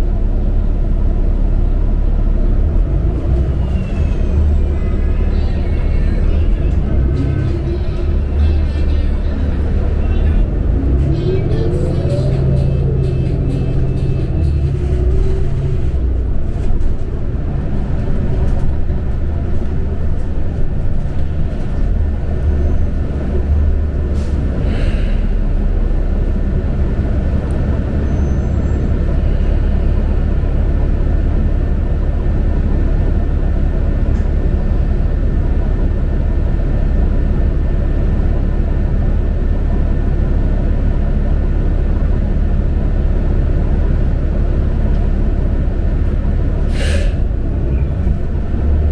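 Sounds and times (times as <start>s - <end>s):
bus engine rumble: 0.0s - 48.9s.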